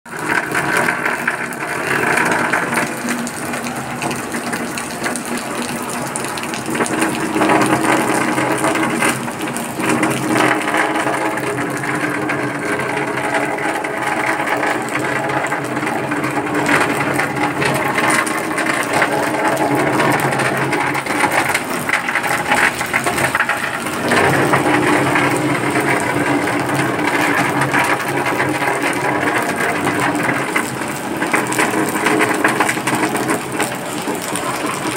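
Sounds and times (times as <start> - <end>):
rain: 0.1 - 34.9.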